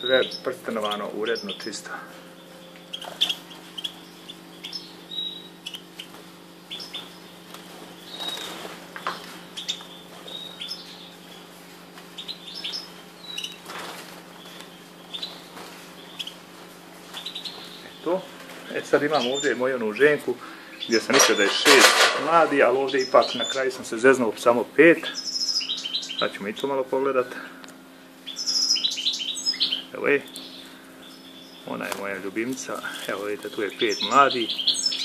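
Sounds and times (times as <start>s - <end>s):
finches chirping: 0.0s - 35.0s
steady low hum: 0.0s - 35.0s.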